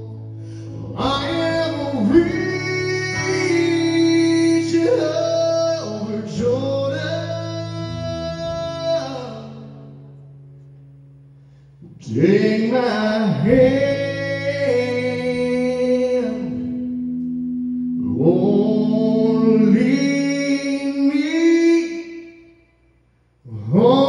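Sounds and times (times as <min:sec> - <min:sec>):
man singing country song: 0:00.0 - 0:10.2, 0:11.9 - 0:22.5, 0:23.4 - 0:24.0
acoustic guitar: 0:00.0 - 0:24.0.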